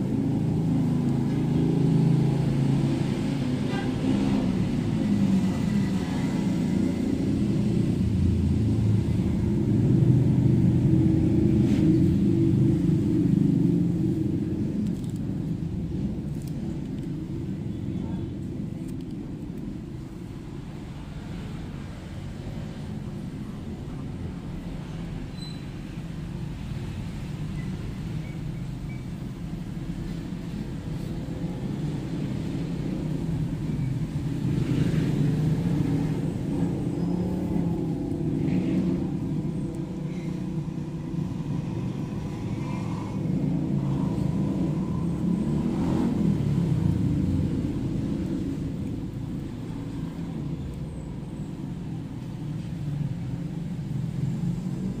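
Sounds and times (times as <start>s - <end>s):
motor vehicle rumble: 0.0s - 55.0s.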